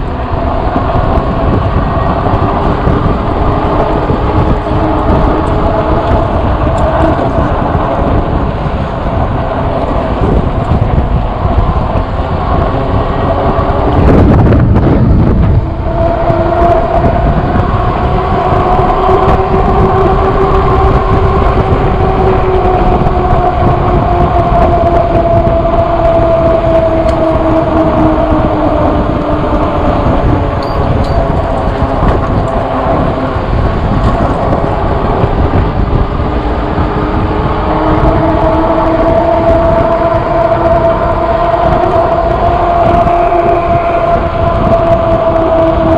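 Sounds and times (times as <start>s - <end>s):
steady droning whine: 0.0s - 45.9s
wind buffeting microphone: 0.0s - 45.9s.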